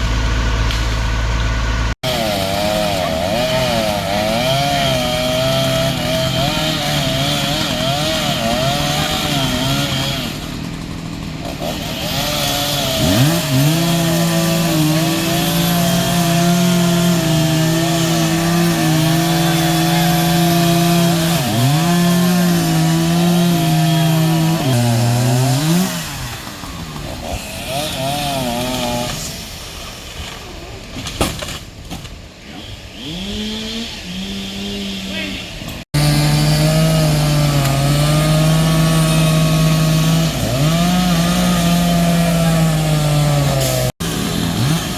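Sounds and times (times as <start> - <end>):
chainsaw cutting wood: 0.7 - 30.4, 31.1 - 44.9.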